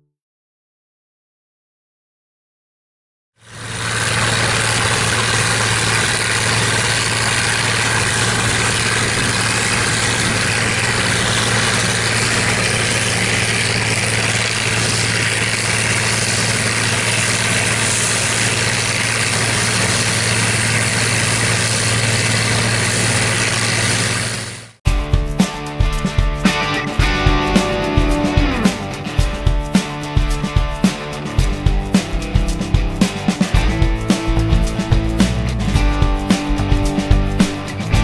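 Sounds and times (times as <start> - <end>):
engine hum: 3.4 - 38.0
forage chopper rushing: 3.4 - 38.0.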